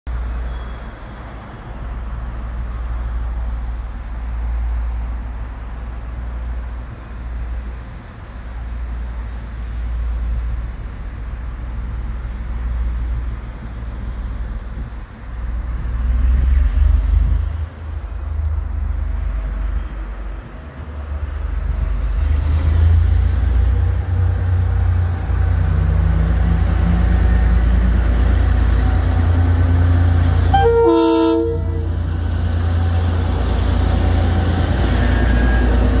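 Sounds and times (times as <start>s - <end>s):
diesel locomotives rumbling: 0.1s - 36.0s.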